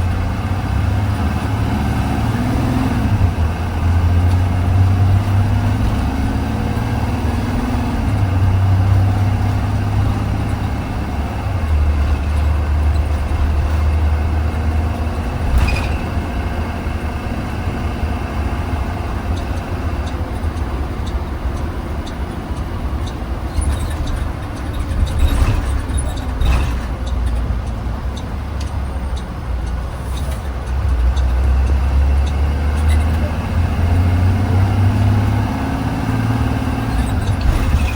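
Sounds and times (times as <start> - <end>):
bus engine drone: 0.0 - 37.9
road noise: 0.0 - 37.9
sharp knocks and rattles: 3.8 - 33.4, 36.2 - 37.9.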